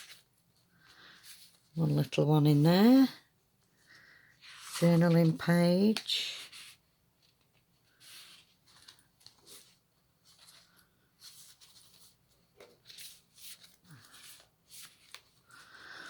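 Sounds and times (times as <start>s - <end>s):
paper pages turning: 0.0s - 1.8s, 4.4s - 16.0s.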